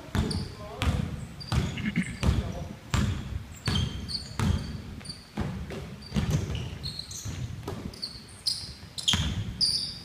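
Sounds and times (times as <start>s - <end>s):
basketball dribbling on wooden floor: 0.1s - 8.0s, 9.0s - 9.6s
sneaker squeaks: 0.1s - 10.0s.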